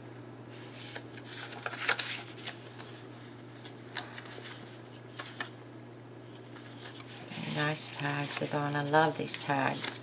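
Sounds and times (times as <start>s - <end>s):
paper rustling and scraping: 0.5s - 5.6s, 6.4s - 10.0s.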